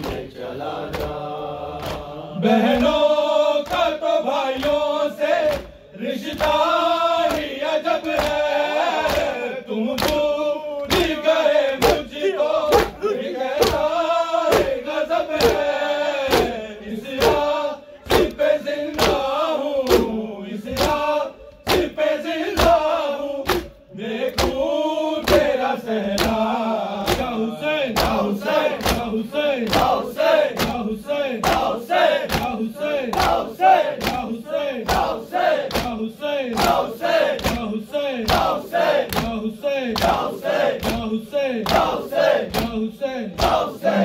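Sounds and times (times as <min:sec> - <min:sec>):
chest slapping in unison: 0:00.0 - 0:00.3, 0:00.9 - 0:03.0, 0:04.6 - 0:06.6, 0:07.2 - 0:09.4, 0:10.0 - 0:22.0, 0:22.6 - 0:24.6, 0:25.2 - 0:26.4, 0:27.0 - 0:27.4, 0:28.0 - 0:36.0, 0:36.6 - 0:39.4, 0:40.0 - 0:42.8
crowd of men chanting: 0:00.0 - 0:44.0.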